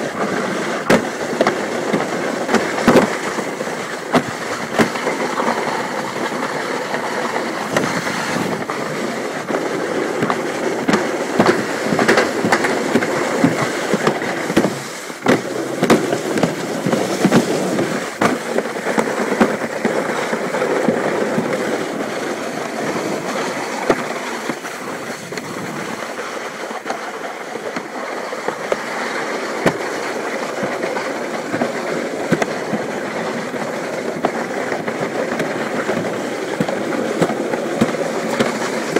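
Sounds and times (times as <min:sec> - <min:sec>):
sharp clacks and knocks: 0:00.0 - 0:38.9
sled rumbling down track: 0:00.0 - 0:38.9.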